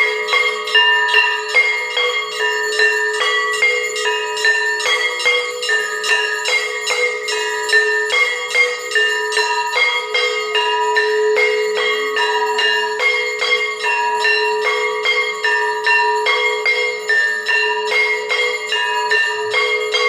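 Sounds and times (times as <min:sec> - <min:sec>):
temple bells ringing: 0:00.0 - 0:20.0.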